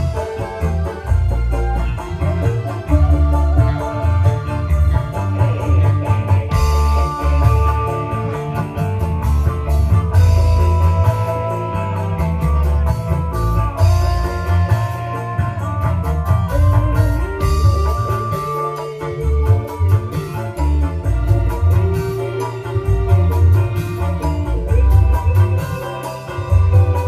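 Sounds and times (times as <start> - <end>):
drum and cymbal beat: 0.0 - 27.0
electric guitar: 0.0 - 27.0
heavy bass: 0.0 - 27.0
held melody notes: 0.0 - 27.0.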